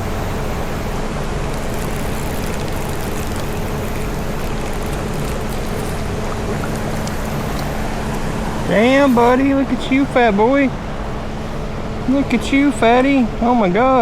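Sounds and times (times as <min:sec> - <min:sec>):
faint even hum: 0:00.0 - 0:14.0
creek water flowing: 0:00.5 - 0:13.5.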